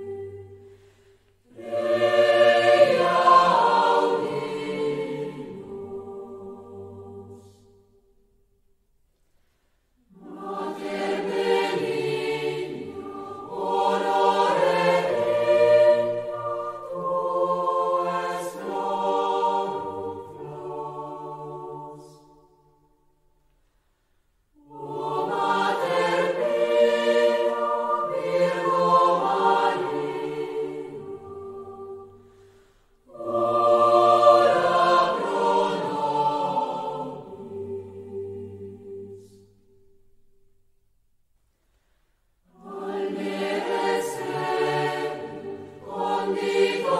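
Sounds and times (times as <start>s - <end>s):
choir singing a slow chant: 0.0s - 8.4s, 9.9s - 40.4s, 42.3s - 46.9s.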